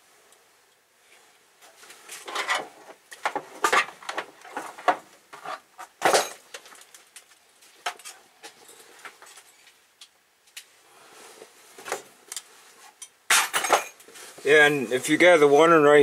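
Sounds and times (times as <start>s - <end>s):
handling clicks and rustles: 1.6s - 15.8s.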